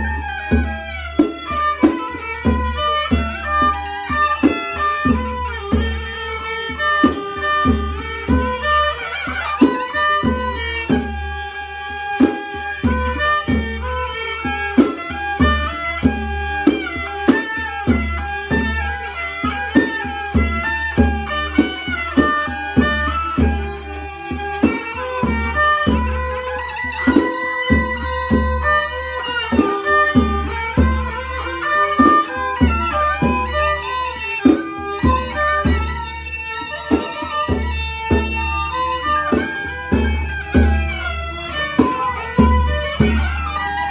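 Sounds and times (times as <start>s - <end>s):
bowed fiddle melody: 0.0s - 43.9s
hand drums beat: 0.0s - 43.9s.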